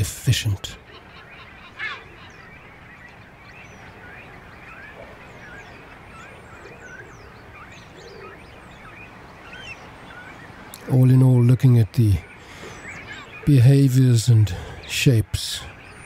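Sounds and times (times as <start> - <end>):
seabirds chirping: 0.0 - 16.0
steady background noise: 0.0 - 16.0.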